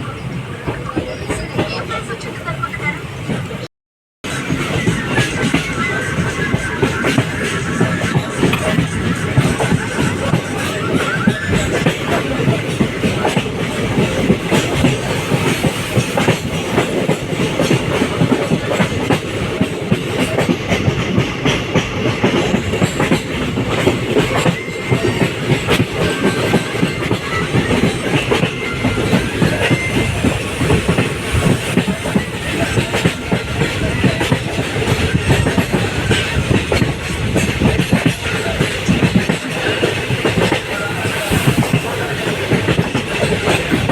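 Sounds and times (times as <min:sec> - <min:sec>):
train rolling rumble: 0:00.0 - 0:43.9
wheels clacking over rail joints: 0:04.3 - 0:43.9.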